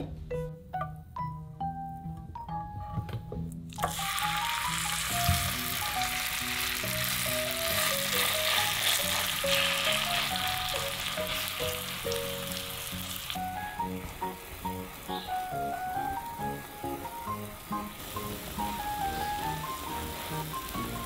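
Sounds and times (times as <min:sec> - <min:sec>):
grated potato sizzling in oil: 0:03.7 - 0:21.0.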